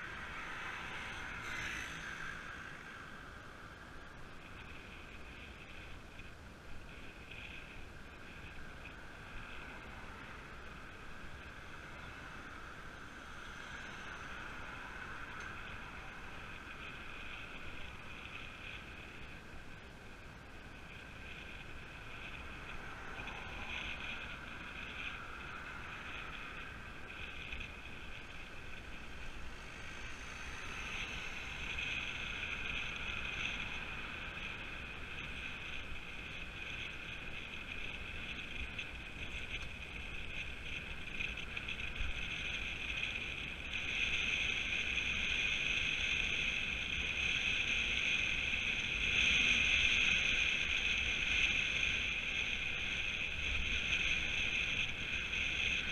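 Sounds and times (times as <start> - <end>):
bicycle tyres rolling on tarmac: 0.0 - 55.9
wind over camera: 0.0 - 55.9.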